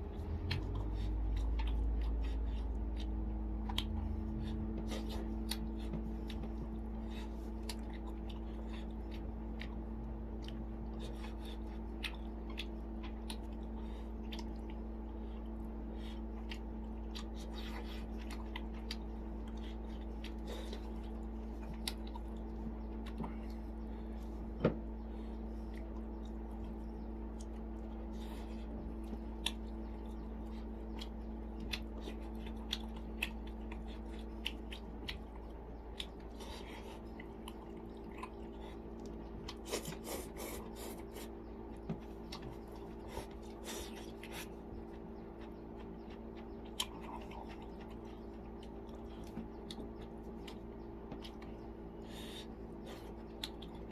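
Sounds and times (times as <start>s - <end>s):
chewing with lip smacks: 0.0s - 53.9s
low electrical hum: 0.0s - 53.9s.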